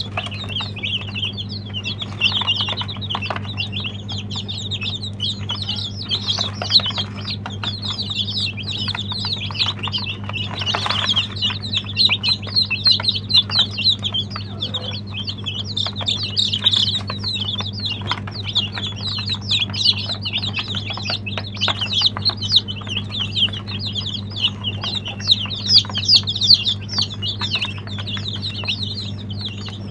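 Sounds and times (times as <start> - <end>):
baby chicks peeping: 0.0 - 29.9
steady low hum: 0.0 - 29.9.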